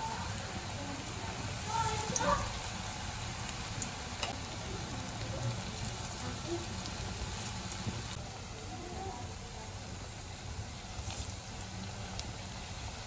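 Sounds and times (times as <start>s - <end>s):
oil crackles: 0.0s - 8.2s, 10.6s - 13.0s
food deep-frying sizzle: 0.0s - 13.0s.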